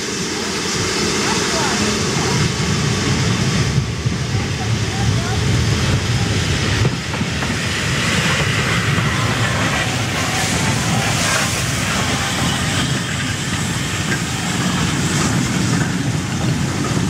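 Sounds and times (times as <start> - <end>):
train wheels rumbling over rails: 0.0 - 17.0.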